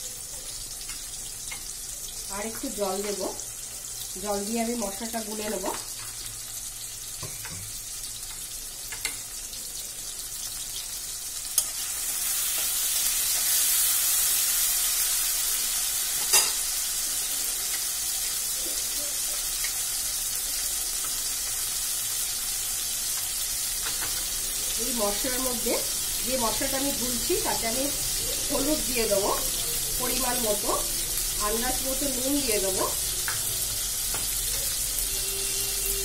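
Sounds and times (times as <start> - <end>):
vegetables sizzling in hot oil: 0.0 - 36.0.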